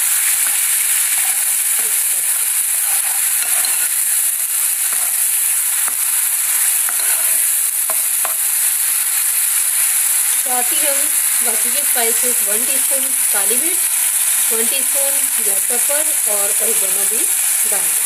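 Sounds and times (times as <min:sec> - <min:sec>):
garlic sizzling in hot oil: 0:00.0 - 0:18.0.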